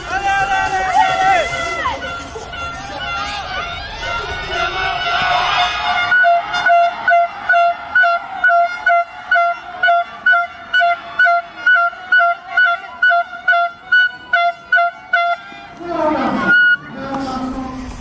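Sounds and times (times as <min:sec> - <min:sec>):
horn honking: 0:00.0 - 0:17.4.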